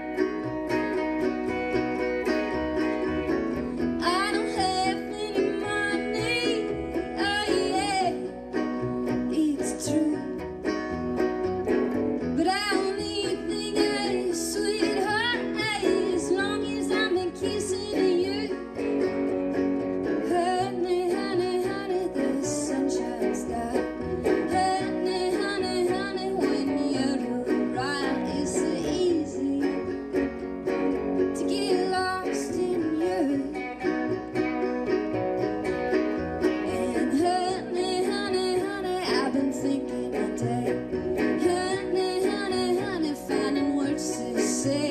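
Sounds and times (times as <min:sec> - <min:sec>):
acoustic guitar: 0:00.0 - 0:44.9
electric guitar: 0:00.0 - 0:44.9
upright bass: 0:00.0 - 0:44.9.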